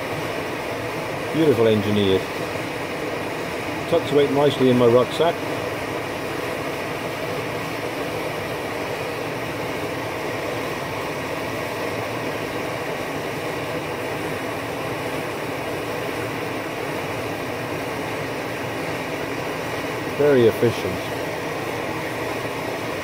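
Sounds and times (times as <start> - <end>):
camping stove burner roaring: 0.0 - 23.0
rain hissing: 0.0 - 23.0.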